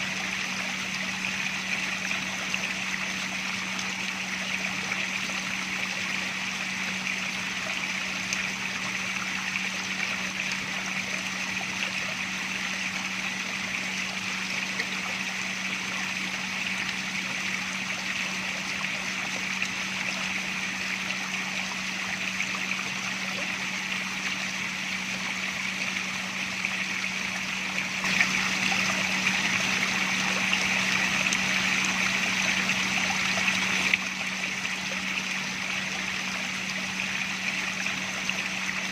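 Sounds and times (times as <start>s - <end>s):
steady low hum: 0.0s - 38.9s
water flowing and trickling: 0.0s - 38.9s.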